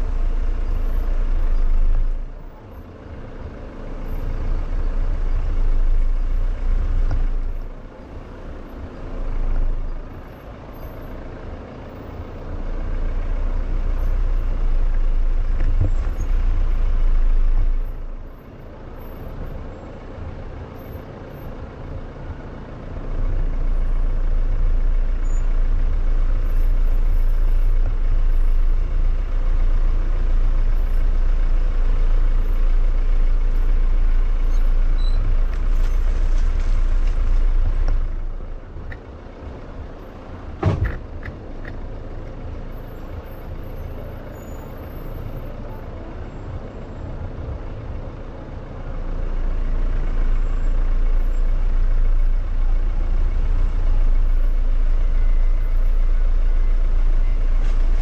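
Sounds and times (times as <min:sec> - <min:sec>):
engine rumble: 0:00.0 - 0:58.0
tyres on dirt trail: 0:00.0 - 0:58.0.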